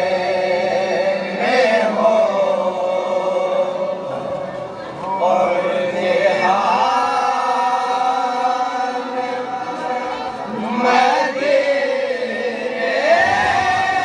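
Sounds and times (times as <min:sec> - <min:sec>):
men chanting in unison: 0:00.0 - 0:04.4, 0:05.1 - 0:14.0.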